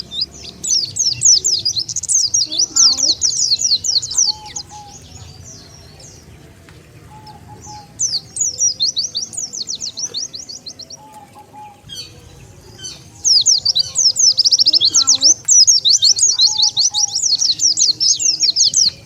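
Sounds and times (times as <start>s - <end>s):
bird twittering: 0.0s - 19.0s.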